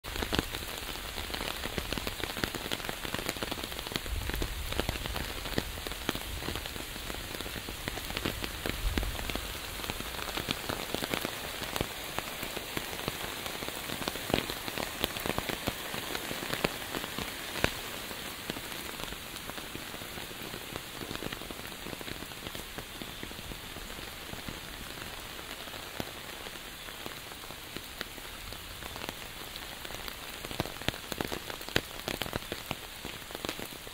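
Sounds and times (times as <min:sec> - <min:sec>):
rain falling: 0:00.0 - 0:33.9.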